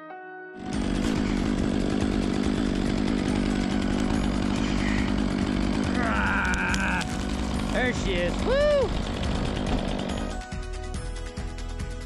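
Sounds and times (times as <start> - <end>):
chainsaw running: 0.6 - 11.7.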